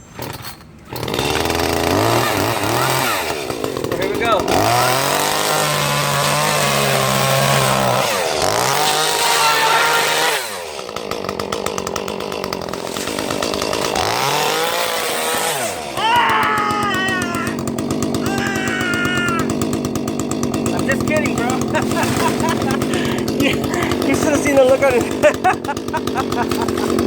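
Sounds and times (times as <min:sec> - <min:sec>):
chainsaw revving: 0:00.2 - 0:27.0.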